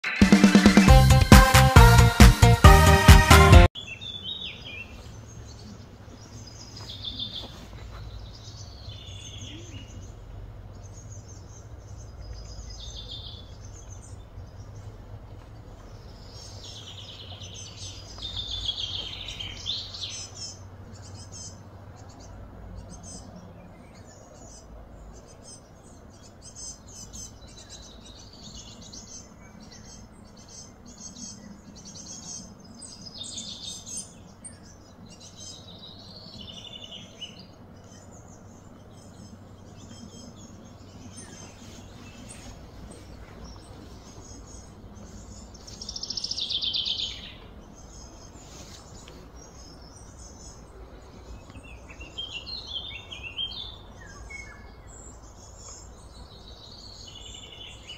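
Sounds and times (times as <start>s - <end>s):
birds chirping: 0.0s - 57.9s
low background hum: 4.1s - 57.9s.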